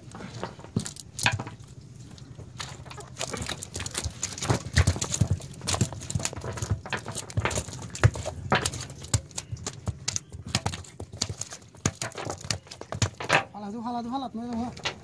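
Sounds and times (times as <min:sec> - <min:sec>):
fish slapping on wooden planks: 0:00.2 - 0:13.6.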